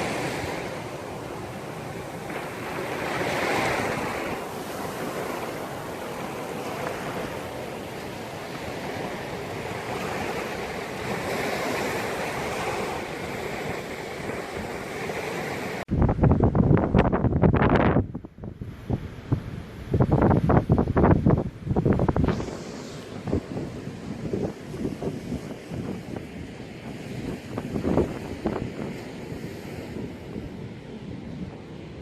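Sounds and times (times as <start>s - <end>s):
sea surf washing in: 0.0s - 16.3s, 18.6s - 32.0s.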